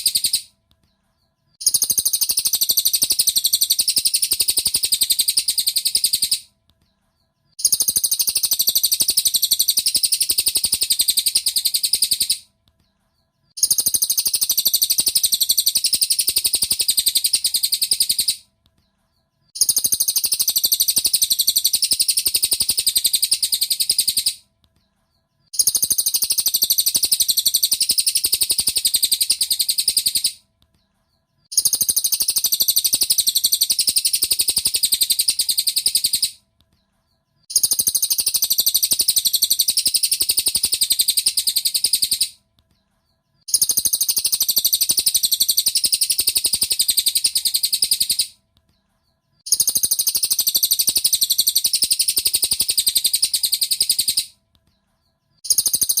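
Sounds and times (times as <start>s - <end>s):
bird chattering trill: 0.0s - 0.5s, 1.6s - 6.5s, 7.6s - 12.5s, 13.6s - 18.4s, 19.5s - 24.4s, 25.5s - 30.4s, 31.5s - 36.4s, 37.5s - 42.4s, 43.5s - 48.4s, 49.5s - 54.3s, 55.4s - 56.0s.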